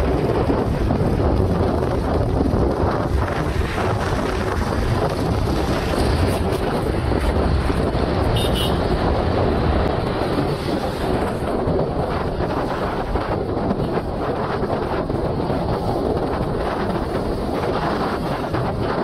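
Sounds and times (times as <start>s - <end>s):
traffic noise: 0.0s - 19.0s
wind buffeting microphone: 0.0s - 19.0s.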